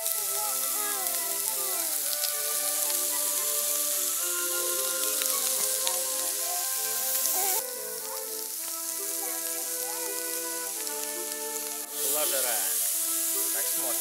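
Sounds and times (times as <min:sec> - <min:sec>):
background music: 0:00.0 - 0:14.0
meat sizzling over a campfire: 0:00.0 - 0:14.0.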